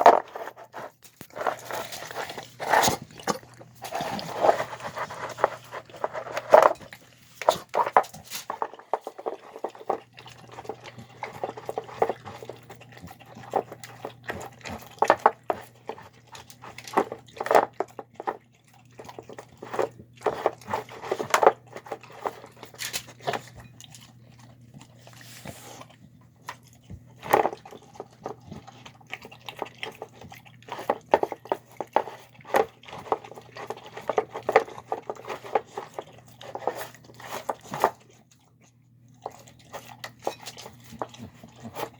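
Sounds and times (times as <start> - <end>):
dog chewing and lip-smacking: 0.0 - 41.9.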